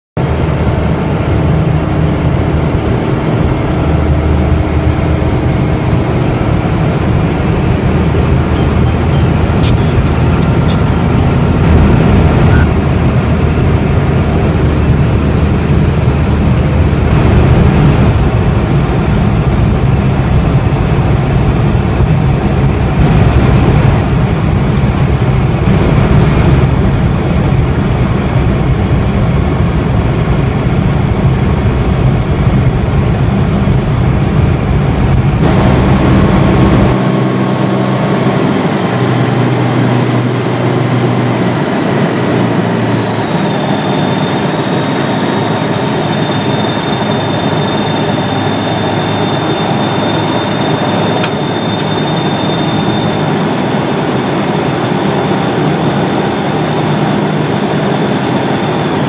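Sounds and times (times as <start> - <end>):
light aircraft engine and propeller: 0.2 - 59.0.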